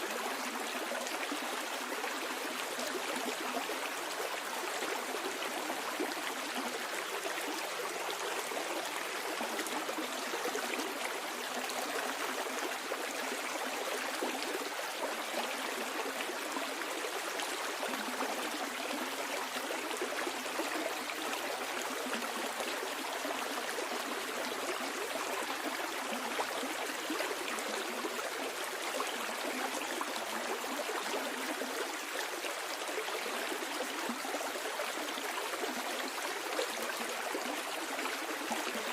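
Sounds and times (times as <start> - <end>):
stream flowing and babbling: 0.0 - 38.9.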